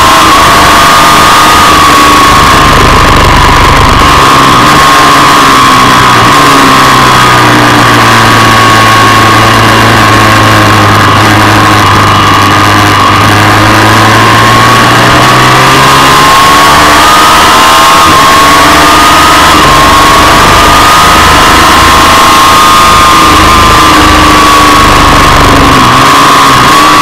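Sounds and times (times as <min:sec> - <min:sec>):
motorcycle engine running hard: 0:00.0 - 0:27.0.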